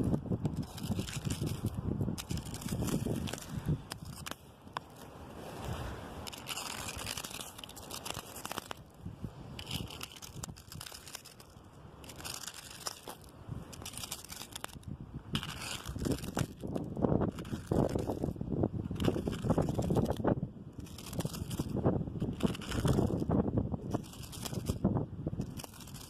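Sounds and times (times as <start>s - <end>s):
crackly rustle: 0.0s - 26.0s
wind rumble on microphone: 0.0s - 26.0s
wind rushing through branches: 0.0s - 26.0s.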